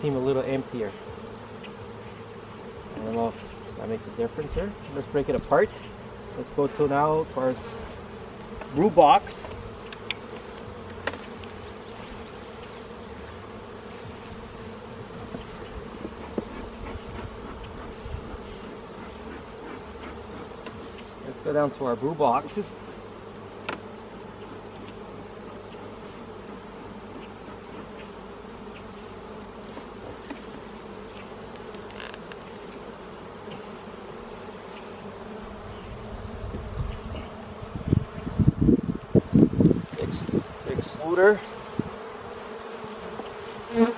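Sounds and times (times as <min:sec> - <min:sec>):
honeybees buzzing: 0:00.0 - 0:43.9.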